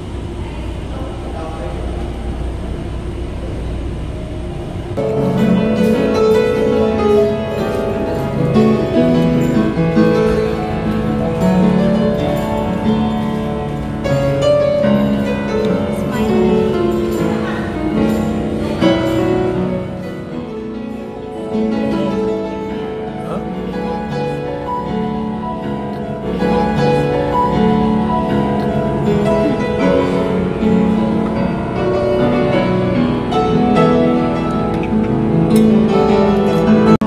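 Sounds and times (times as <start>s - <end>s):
slow melodic background music: 5.0s - 37.0s.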